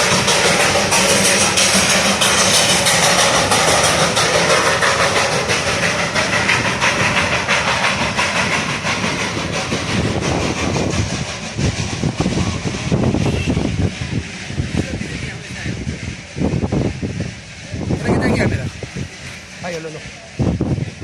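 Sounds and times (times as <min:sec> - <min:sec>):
train hissing: 0:00.0 - 0:21.0
train wheels clattering on rails: 0:00.0 - 0:21.0.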